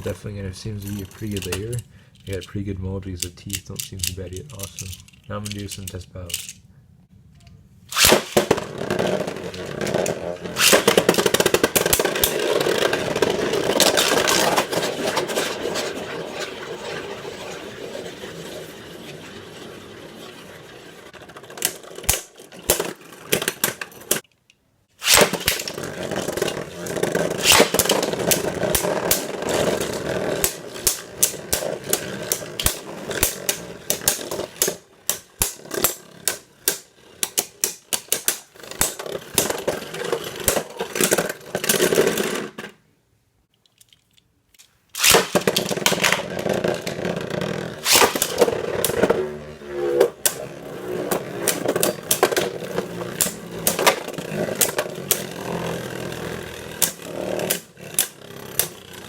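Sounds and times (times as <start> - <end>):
spinning tops whirring: 7.9 - 24.2, 25.0 - 42.4, 45.0 - 59.0.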